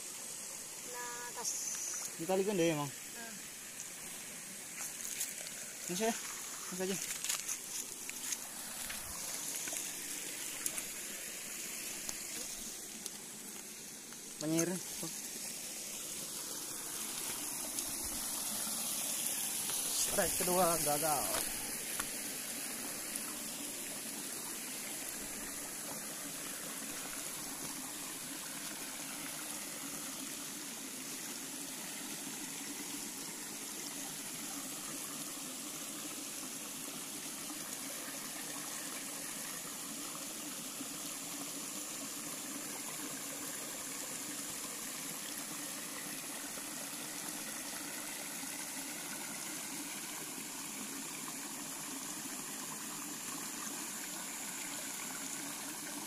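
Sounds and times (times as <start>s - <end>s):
stream splashing over stones: 0.0s - 56.0s.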